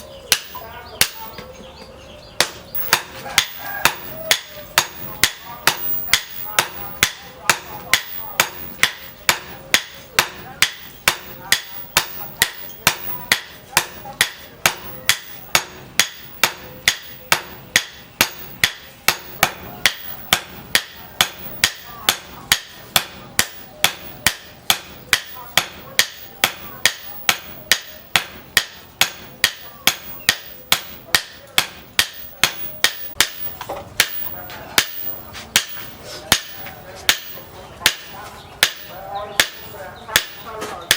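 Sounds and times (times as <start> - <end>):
hammer striking steel on anvil: 0.3 - 1.4, 2.4 - 40.9.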